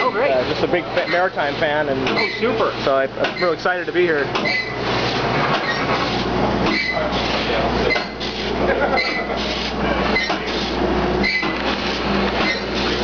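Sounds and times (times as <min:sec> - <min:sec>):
machinery low hum: 0:00.0 - 0:13.0
rhythmic clanking and hissing: 0:00.0 - 0:13.0.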